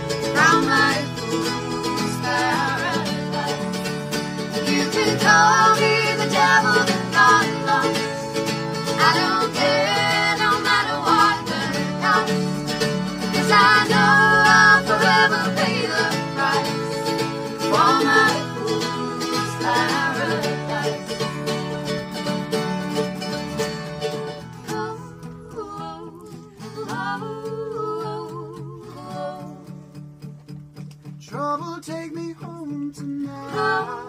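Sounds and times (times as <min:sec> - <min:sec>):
voices singing in harmony: 0:00.0 - 0:22.8, 0:24.4 - 0:29.8, 0:33.2 - 0:34.0
mandolin picking: 0:00.0 - 0:31.2, 0:32.6 - 0:34.0
acoustic guitars strumming: 0:00.0 - 0:34.0.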